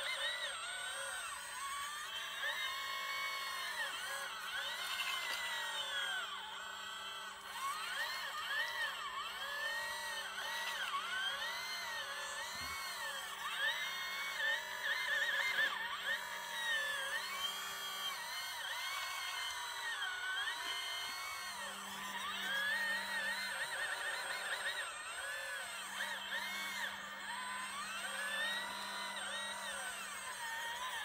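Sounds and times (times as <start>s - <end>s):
electric pump whining: 0.0s - 31.0s.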